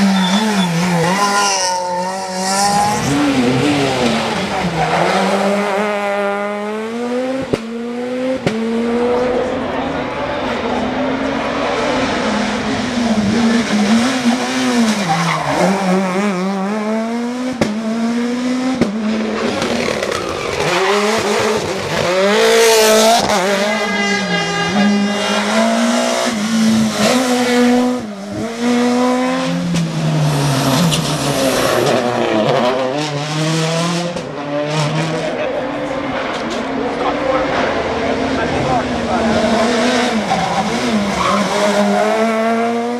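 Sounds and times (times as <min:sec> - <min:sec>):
rally car engines revving: 0:00.0 - 0:42.9.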